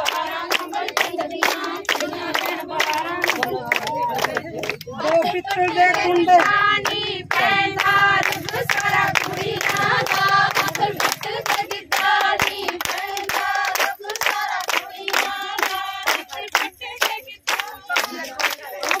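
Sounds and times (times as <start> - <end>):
rhythmic hand clapping: 0.0 - 19.0
women singing together: 0.0 - 19.0.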